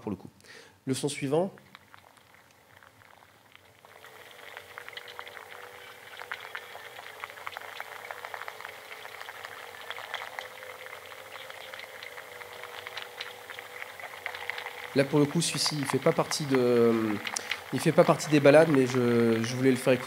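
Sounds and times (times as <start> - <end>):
underwater crackle of clicks: 1.5 - 20.0.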